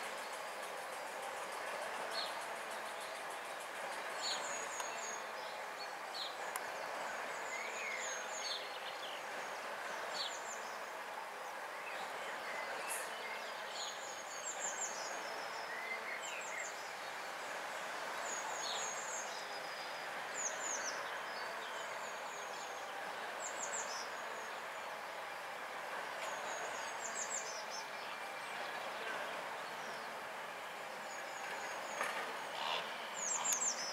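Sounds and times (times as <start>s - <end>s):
small birds chirping: 0.0s - 25.3s, 26.1s - 33.9s
background hiss: 0.0s - 33.9s.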